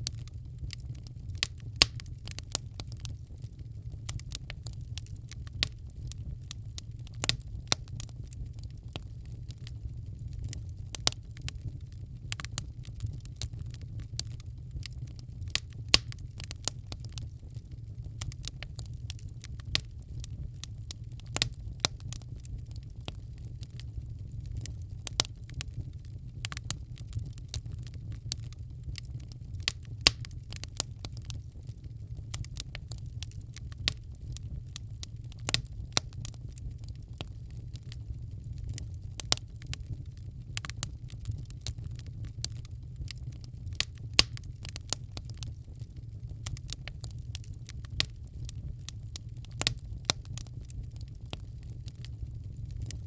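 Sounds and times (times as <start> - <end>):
low fire rumble: 0.0 - 53.0
wood fire crackling and popping: 0.0 - 53.0.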